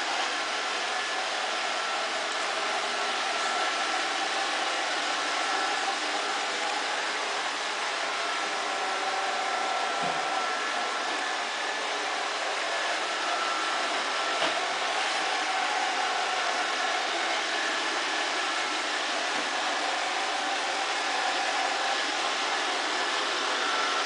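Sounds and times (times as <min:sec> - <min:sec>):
robot vacuum cleaner whirring: 0:00.0 - 0:24.0.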